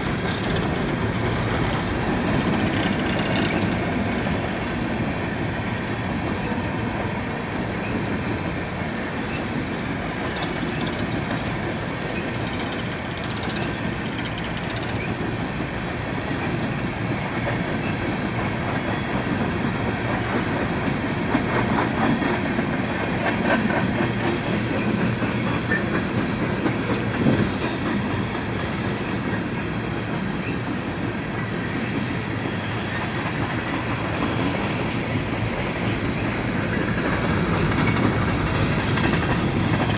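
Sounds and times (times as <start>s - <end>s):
train cars rolling past: 0.0s - 39.9s
wheels clacking over rail joints: 0.0s - 39.9s.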